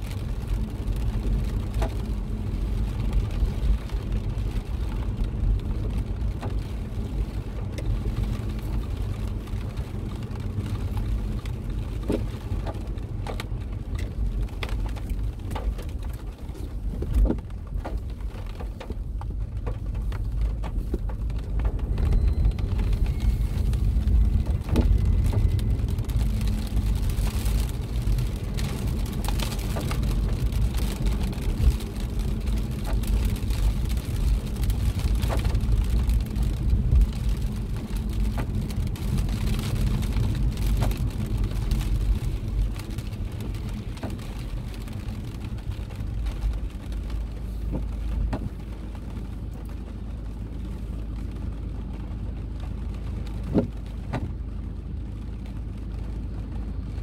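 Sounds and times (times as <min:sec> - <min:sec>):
low rumble of moving car: 0:00.0 - 0:57.0
raindrops tapping on glass: 0:00.1 - 0:54.4.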